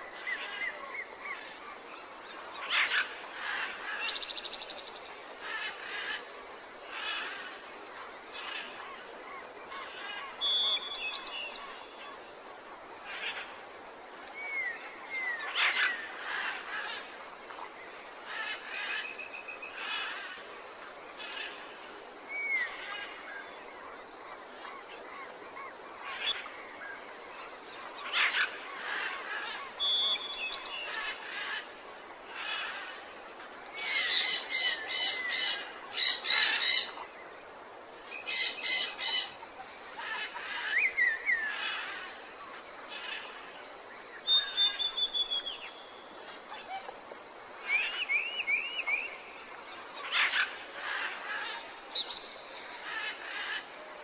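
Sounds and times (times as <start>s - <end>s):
wild birds chirping and calling: 0.0s - 54.0s.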